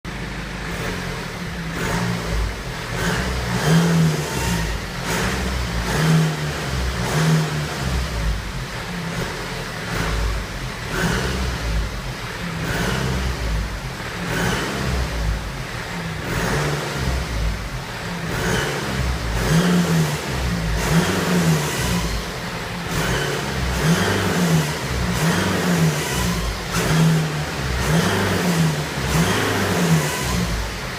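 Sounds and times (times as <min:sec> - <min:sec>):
car engine rumble: 0:00.0 - 0:30.9.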